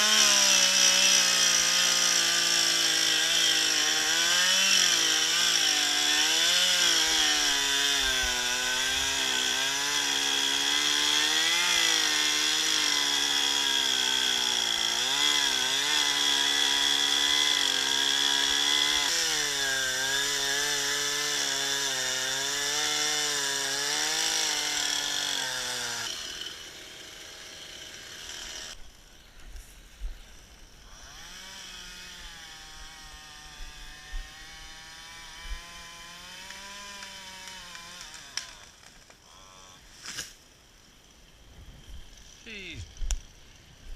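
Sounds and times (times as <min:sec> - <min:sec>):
chainsaw cutting into tree: 0:00.0 - 0:28.9, 0:30.7 - 0:41.0.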